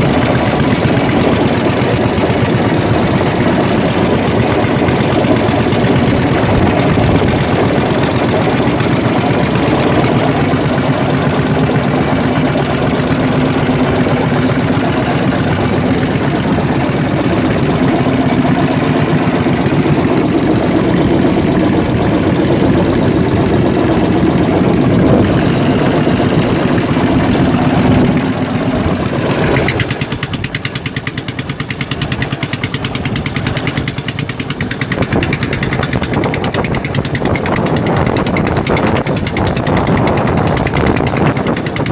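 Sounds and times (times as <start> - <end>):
boat engine pulsing hum: 0.0 - 41.9.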